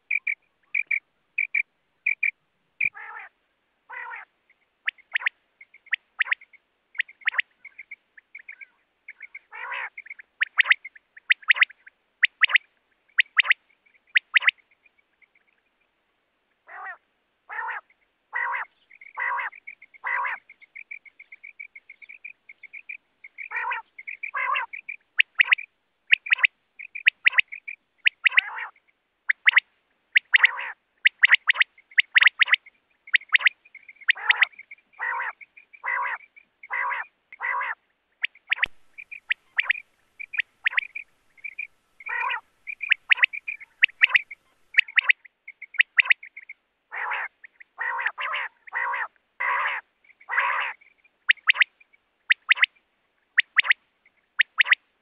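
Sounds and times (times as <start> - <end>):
soft twittering: 0.0 - 3.0, 4.5 - 15.9, 17.8 - 37.0, 38.2 - 46.6, 50.0 - 54.8
quail calling: 0.0 - 14.6, 16.7 - 52.7, 53.4 - 53.8, 54.4 - 54.8.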